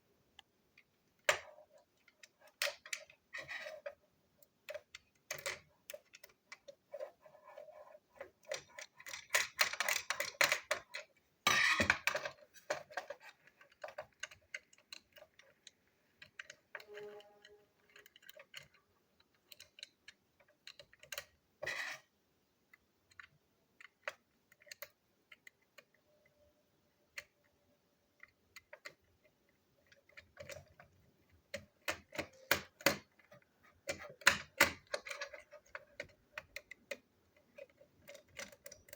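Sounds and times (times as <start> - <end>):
plastic toy pieces clicking and rattling: 1.2 - 22.1, 22.7 - 26.4, 27.1 - 38.9.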